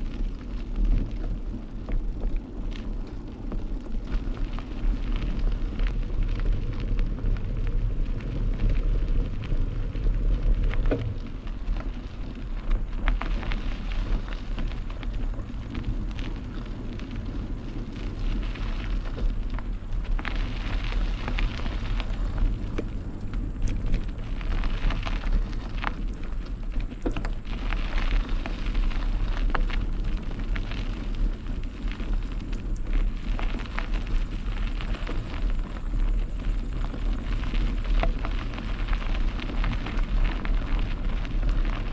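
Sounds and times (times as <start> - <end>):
bike rattling: 0.0 - 41.9
bike tyres on gravel: 0.0 - 41.9
wind rumble on microphone: 0.0 - 41.9.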